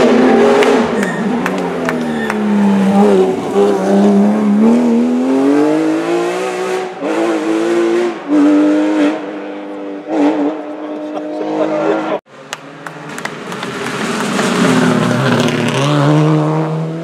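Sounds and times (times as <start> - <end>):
car engine accelerating past: 0.0 - 17.0.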